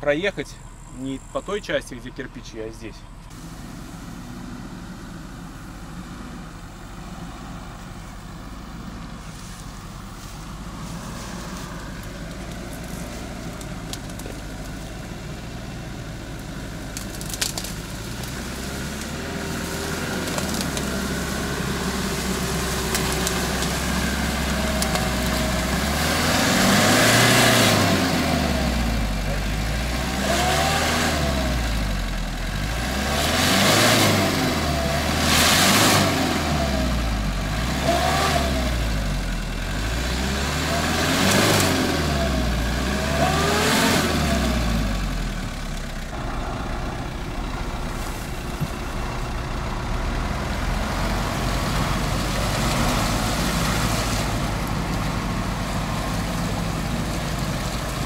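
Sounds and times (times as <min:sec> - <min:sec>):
suv engine revving in mud: 0:03.3 - 0:58.0.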